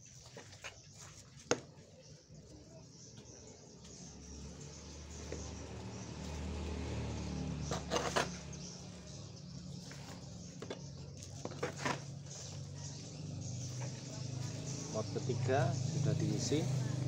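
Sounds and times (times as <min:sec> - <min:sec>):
dry leaves and soil rustling: 0:00.0 - 0:02.5, 0:03.2 - 0:17.0.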